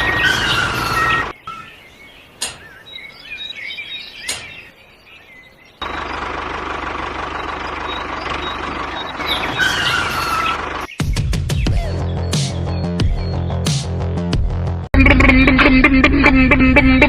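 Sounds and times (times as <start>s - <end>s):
birds chirping: 0.0s - 13.7s.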